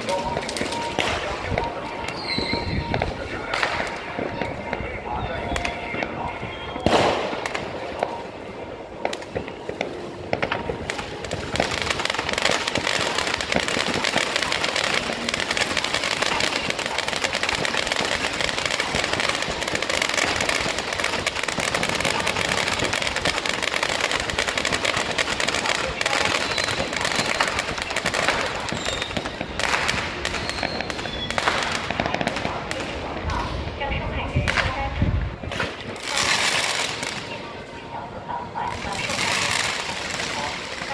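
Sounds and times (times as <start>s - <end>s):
fireworks crackling: 0.0s - 40.9s.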